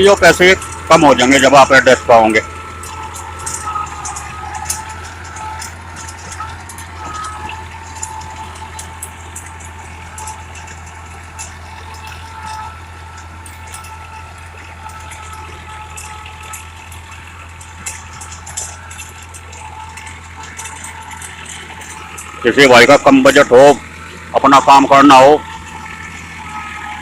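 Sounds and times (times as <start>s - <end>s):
diesel engine running: 0.0s - 27.0s
light clicking and rattling: 0.0s - 27.0s.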